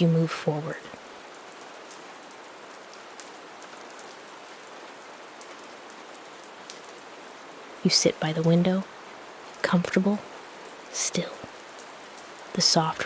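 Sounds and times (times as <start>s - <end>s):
raindrops pattering: 0.0s - 13.0s
soft rain falling: 0.0s - 13.0s.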